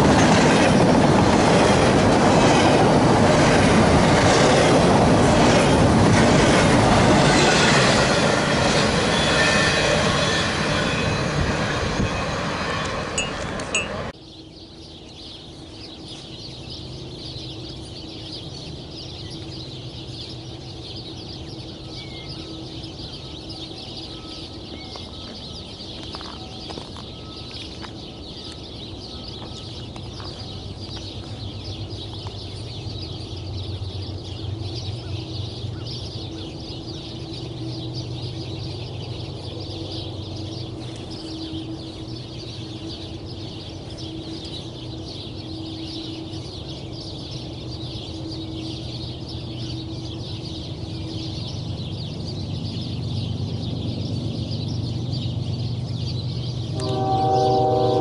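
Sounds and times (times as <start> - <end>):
train passing close by: 0.0 - 58.0.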